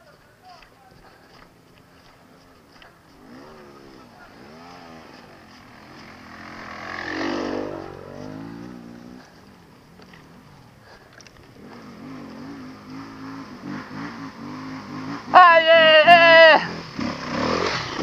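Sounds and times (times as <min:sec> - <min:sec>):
dirt bike engine revving: 0:01.8 - 0:18.0.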